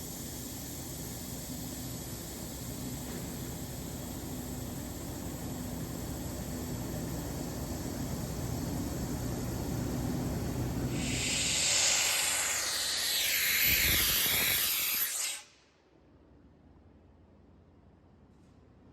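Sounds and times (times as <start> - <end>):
compressed air hissing: 0.0 - 15.6.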